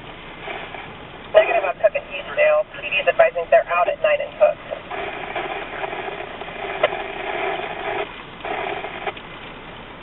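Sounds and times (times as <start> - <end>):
radio scanner static hiss: 0.3 - 9.2.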